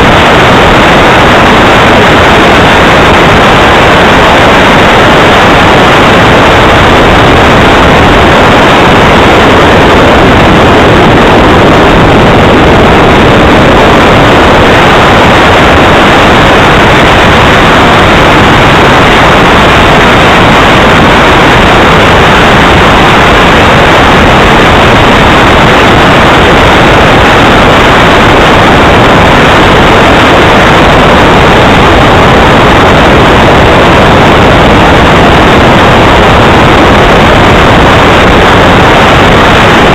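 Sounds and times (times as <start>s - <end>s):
model jet engine rushing: 0.0s - 39.9s.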